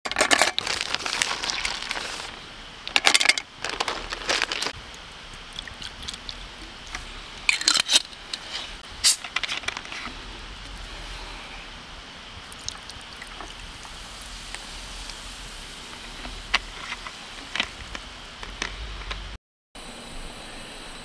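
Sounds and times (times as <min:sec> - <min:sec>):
ice clinking and crackling: 0:00.0 - 0:11.4, 0:12.5 - 0:19.3.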